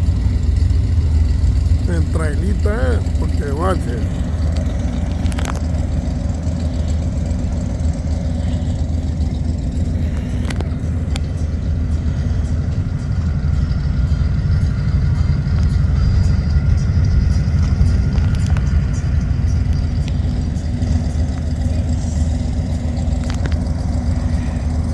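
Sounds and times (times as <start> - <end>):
vehicle engine idling: 0.0 - 24.9.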